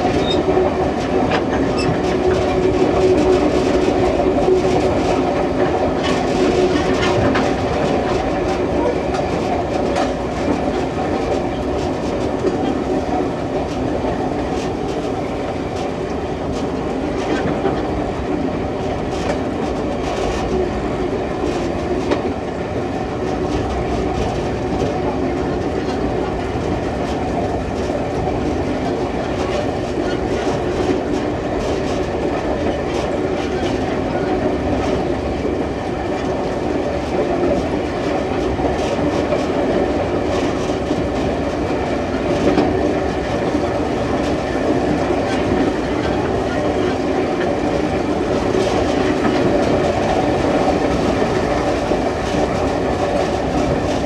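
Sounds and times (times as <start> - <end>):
train wheels rumbling on rails: 0.0 - 54.0
wheels clacking on track: 0.0 - 54.0.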